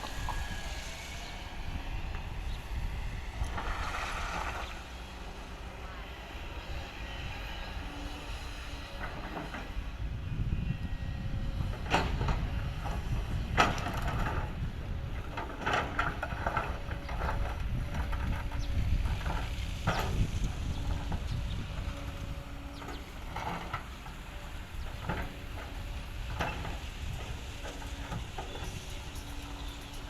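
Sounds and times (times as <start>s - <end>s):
excavator diesel engine rumble: 0.0s - 30.0s.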